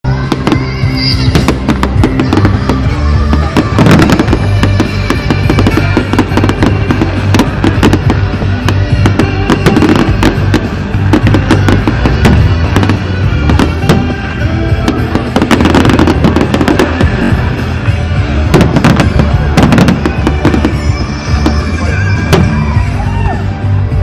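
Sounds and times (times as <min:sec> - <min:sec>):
loud music from sound system: 0:00.0 - 0:24.0
fireworks bangs and crackles: 0:00.1 - 0:24.0.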